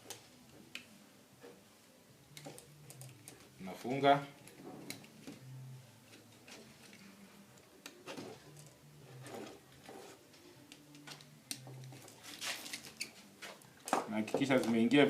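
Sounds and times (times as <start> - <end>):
wires clicking and scraping: 2.2 - 15.0.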